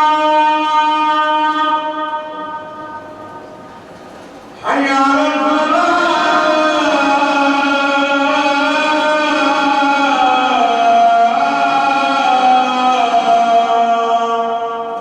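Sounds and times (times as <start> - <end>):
man chanting call to prayer: 0.0 - 3.7, 4.6 - 15.0.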